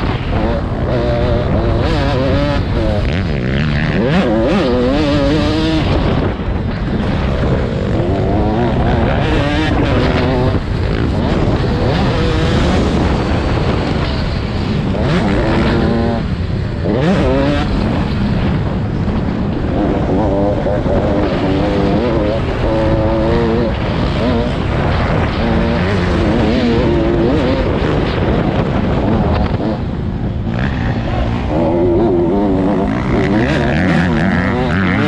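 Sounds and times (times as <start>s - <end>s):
motocross bikes revving: 0.0s - 35.0s.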